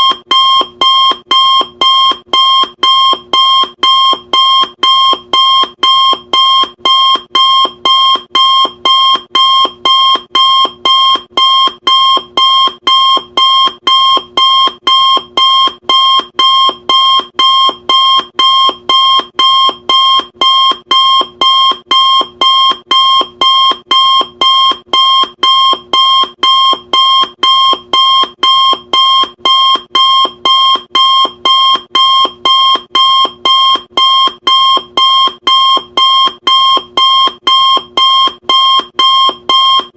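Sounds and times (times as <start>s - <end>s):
electronic timer alarm beeping: 0.0s - 39.9s.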